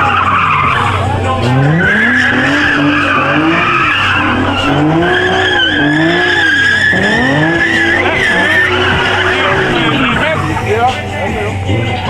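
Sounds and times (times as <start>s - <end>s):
car engine revving: 0.0s - 12.0s
tyre squealing: 0.0s - 12.0s.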